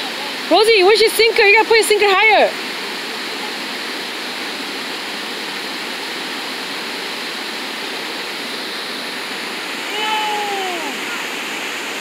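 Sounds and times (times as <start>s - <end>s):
river water washing against rocks: 0.0s - 12.0s.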